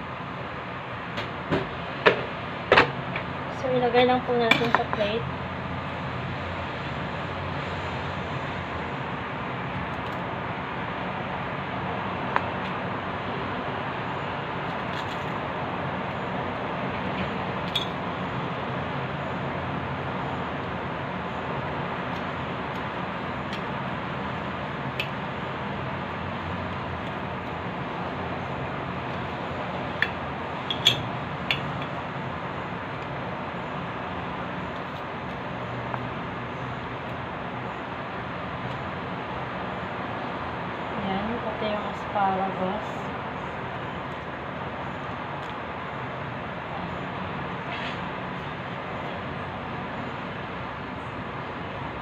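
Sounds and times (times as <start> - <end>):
rushing background noise: 0.0 - 52.0.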